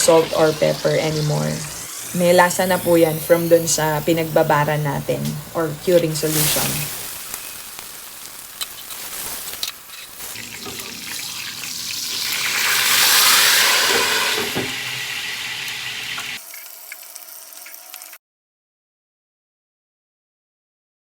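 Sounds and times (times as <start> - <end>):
meat sizzling in oil: 0.0 - 18.2.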